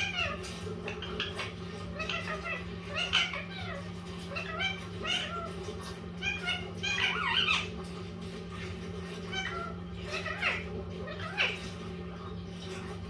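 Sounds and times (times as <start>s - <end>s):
parrot chirping and squawking: 0.0s - 7.9s, 8.5s - 12.9s.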